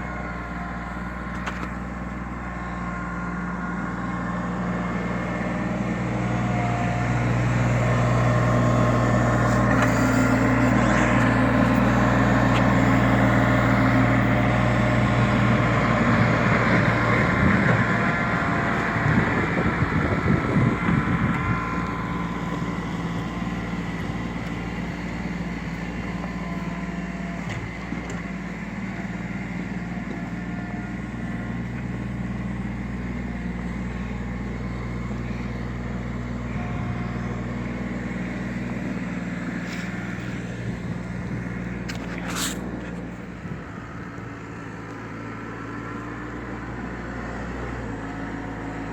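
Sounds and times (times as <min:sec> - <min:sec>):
snow-clearing machine engine running: 0:00.0 - 0:48.9.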